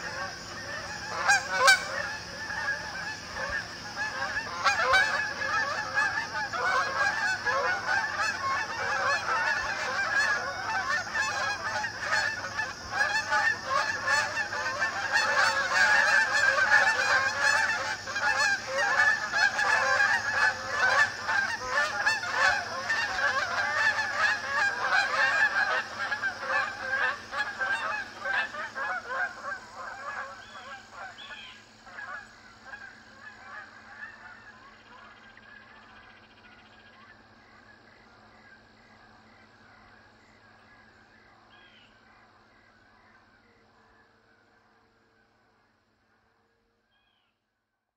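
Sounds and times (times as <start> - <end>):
geese honking: 0.0 - 45.6.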